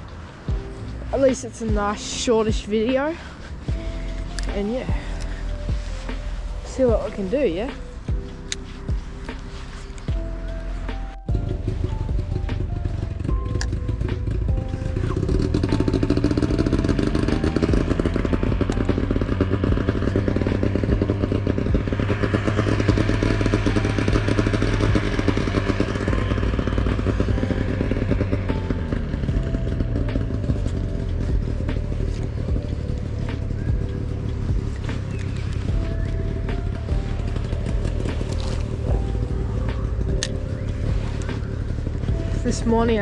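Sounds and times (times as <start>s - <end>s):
background music: 0.0s - 43.0s
motor engine running: 0.0s - 43.0s.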